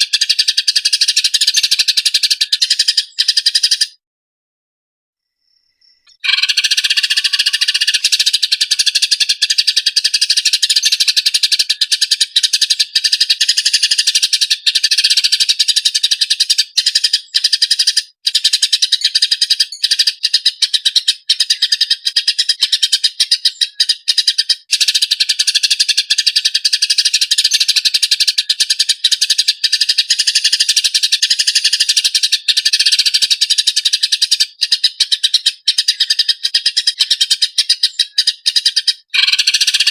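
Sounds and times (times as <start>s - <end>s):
songbird rapid trill: 0.0s - 4.0s, 5.3s - 39.9s.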